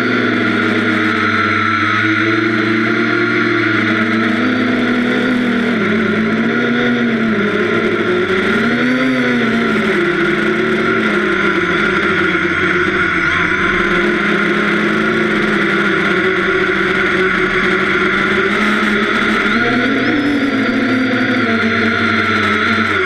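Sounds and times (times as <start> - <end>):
low hum rising and falling: 0.0 - 23.0
quadcopter motors buzzing whine: 0.0 - 23.0.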